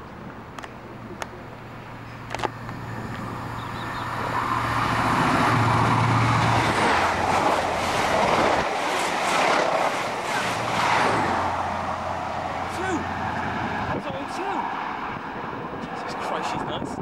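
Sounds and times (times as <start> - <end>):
diesel engine hum: 0.0 - 8.7, 9.9 - 16.0.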